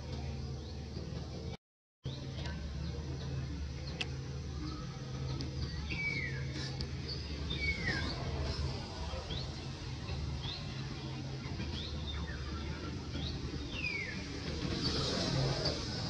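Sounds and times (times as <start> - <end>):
small birds chirping: 2.1 - 16.0.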